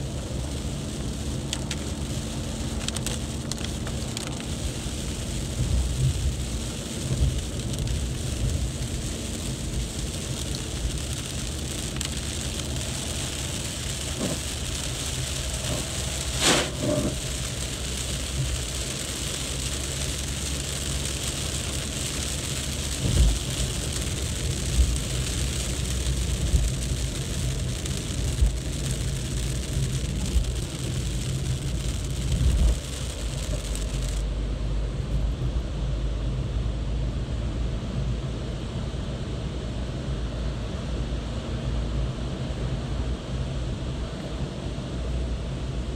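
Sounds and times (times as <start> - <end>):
low rumble: 0.0 - 19.7, 22.9 - 45.9
heavy rain on wet road: 0.0 - 45.9.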